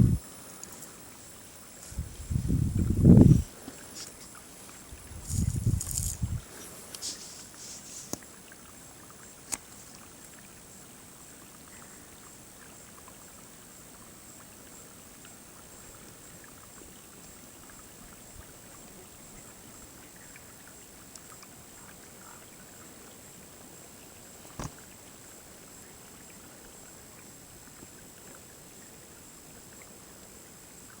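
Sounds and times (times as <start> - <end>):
outdoor ambience hiss: 0.0 - 31.0.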